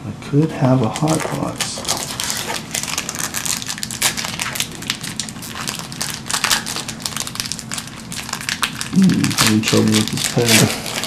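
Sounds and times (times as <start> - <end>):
card pack wrapper crinkling: 0.8 - 11.0.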